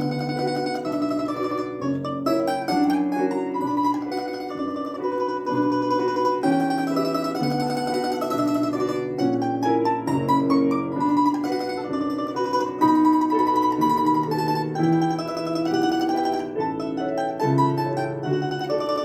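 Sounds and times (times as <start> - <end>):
plucked string instrument melody: 0.0 - 19.0.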